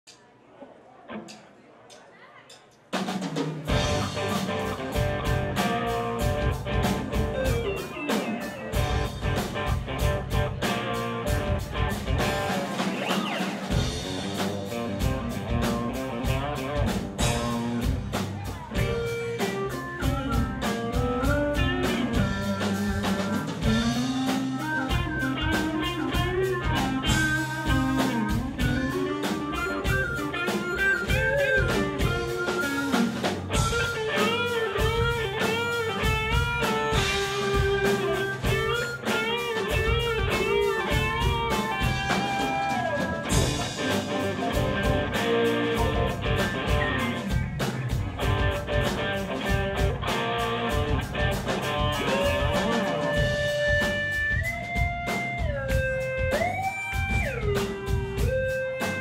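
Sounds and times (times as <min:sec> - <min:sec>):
live rock band playing: 0:03.0 - 0:59.0
pitch-bending lead line: 0:03.6 - 0:59.0.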